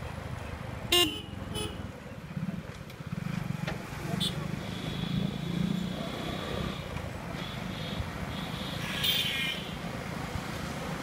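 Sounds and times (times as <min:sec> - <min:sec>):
street noise: 0:00.0 - 0:11.0
traffic engine rumble: 0:00.0 - 0:11.0.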